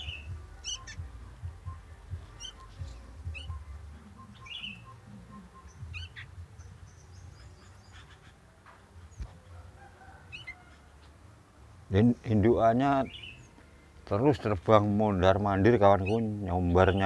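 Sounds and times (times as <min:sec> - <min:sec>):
bird chirping: 0:00.0 - 0:11.2, 0:11.9 - 0:17.0.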